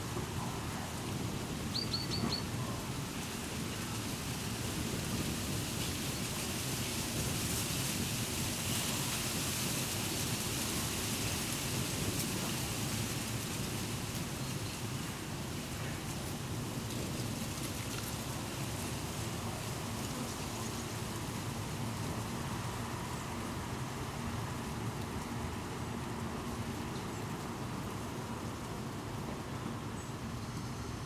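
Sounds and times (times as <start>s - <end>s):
wind rustling leaves: 0.0s - 31.0s.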